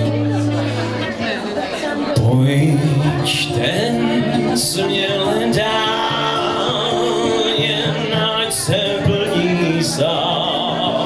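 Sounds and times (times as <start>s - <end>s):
acoustic guitar: 0.0s - 11.0s
man singing: 2.0s - 11.0s.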